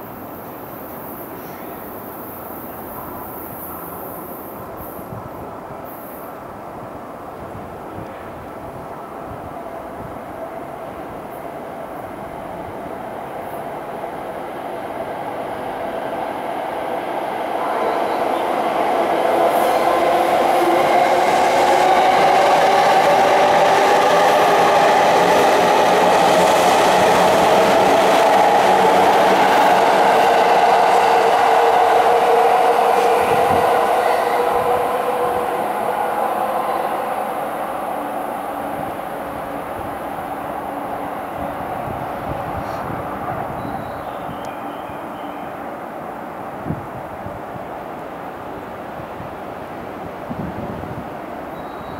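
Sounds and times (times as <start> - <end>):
train wheels on rail: 0.0 - 51.9.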